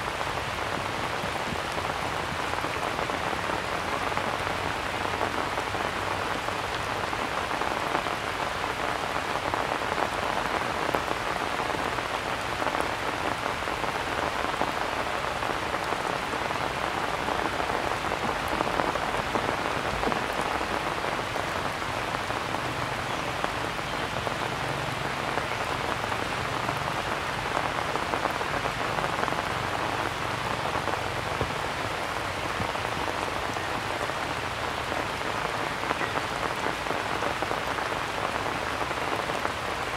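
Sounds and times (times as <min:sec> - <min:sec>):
rain on grass and stone: 0:00.0 - 0:39.9.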